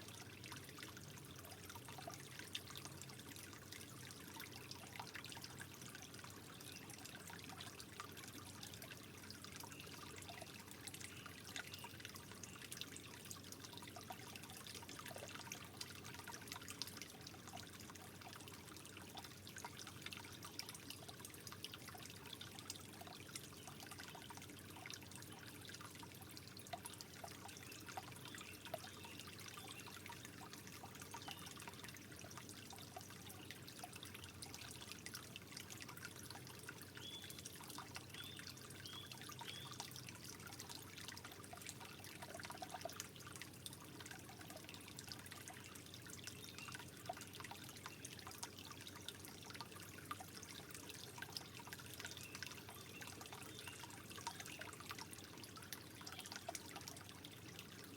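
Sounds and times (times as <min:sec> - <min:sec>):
water drips and plinks: 0:00.0 - 0:57.9
water trickling: 0:00.0 - 0:57.9.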